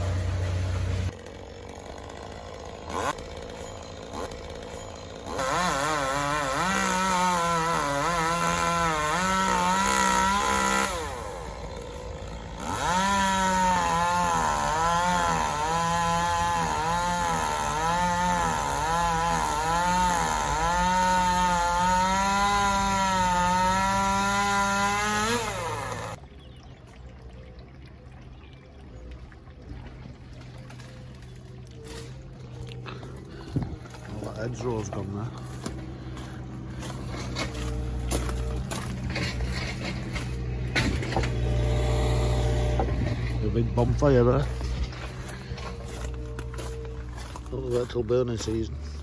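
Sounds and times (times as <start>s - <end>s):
chainsaw revving through wood: 0.0s - 26.2s, 31.8s - 49.0s.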